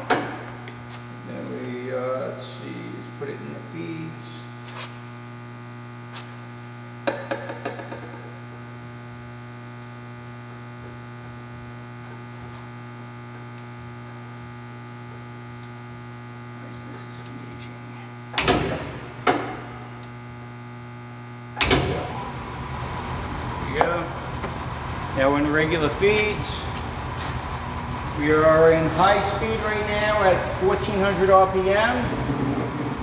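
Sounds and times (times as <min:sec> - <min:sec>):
lathe electrical hum: 0:00.0 - 0:33.0.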